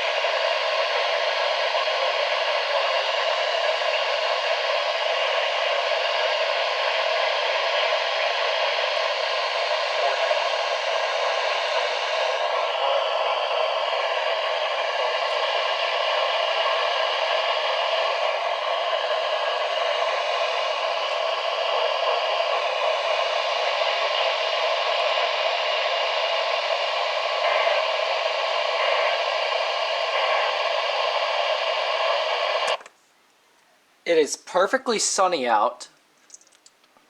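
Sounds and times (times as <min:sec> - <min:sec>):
radio static hiss: 0:00.0 - 0:32.9.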